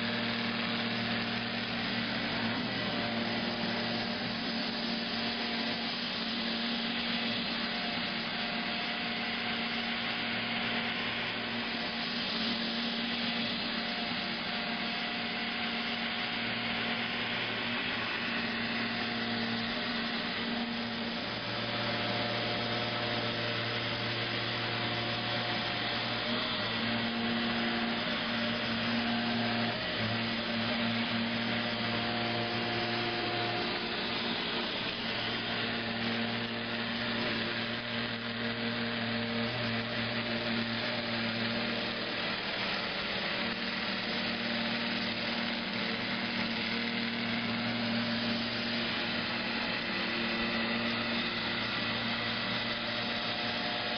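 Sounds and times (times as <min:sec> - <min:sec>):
robot vacuum motor whir: 0:00.0 - 0:53.9.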